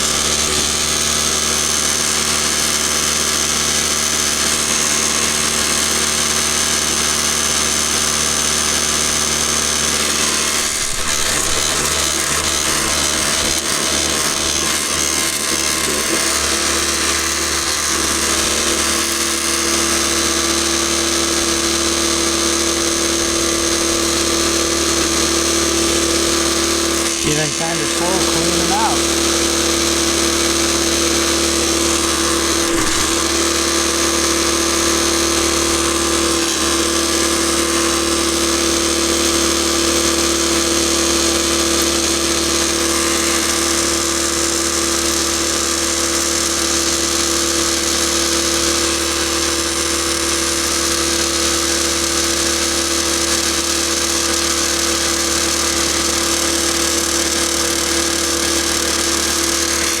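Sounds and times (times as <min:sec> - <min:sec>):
motor humming: 0:00.0 - 1:00.0.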